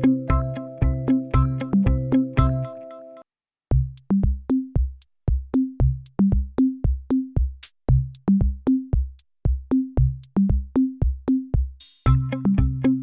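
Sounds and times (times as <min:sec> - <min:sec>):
drum machine beat with bass notes: 0:00.0 - 0:02.7, 0:03.7 - 0:13.0.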